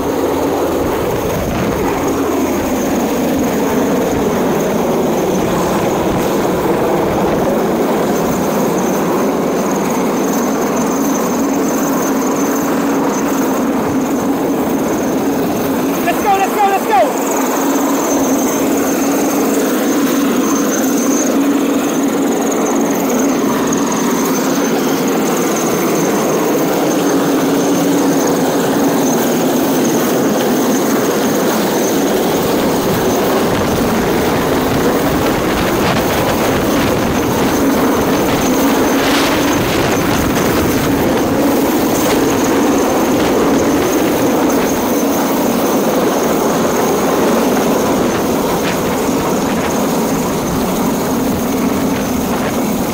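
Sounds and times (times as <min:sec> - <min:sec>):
helicopter rotor and turbine din: 0:00.0 - 0:52.9
thin high whine: 0:00.0 - 0:52.9.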